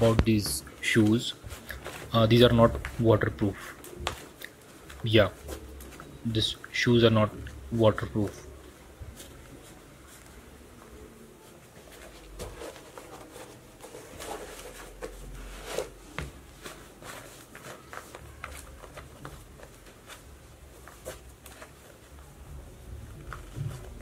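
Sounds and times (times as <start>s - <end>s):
rustling and scuffing of shoes: 0.0s - 6.2s, 8.0s - 24.0s.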